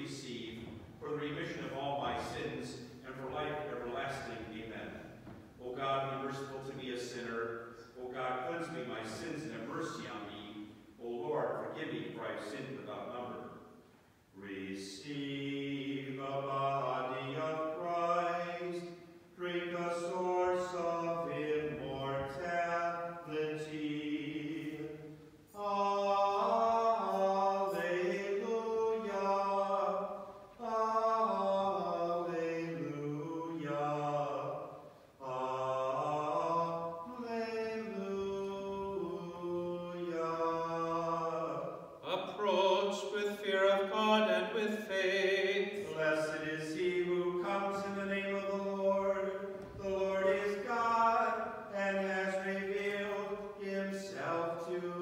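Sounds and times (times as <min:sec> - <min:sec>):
unaccompanied hymn chanting: 0:00.0 - 0:13.8, 0:14.4 - 0:55.0.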